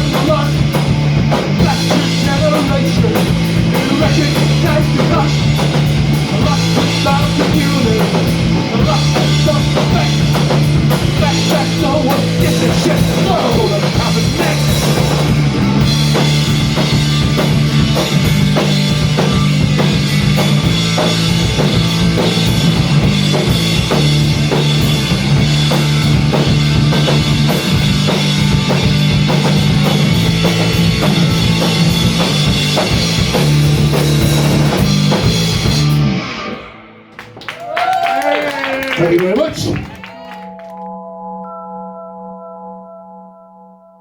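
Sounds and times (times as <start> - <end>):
fast drum beats: 0.0 - 36.0, 38.0 - 40.2
distorted electric guitars: 0.0 - 37.4
bass guitar: 0.0 - 44.0.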